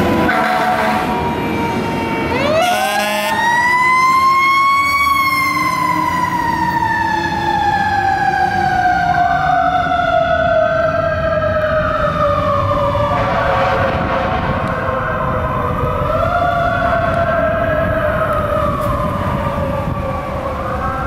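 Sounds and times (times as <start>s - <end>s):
fire truck siren wailing: 0.0s - 21.0s
second siren rising: 0.0s - 21.0s.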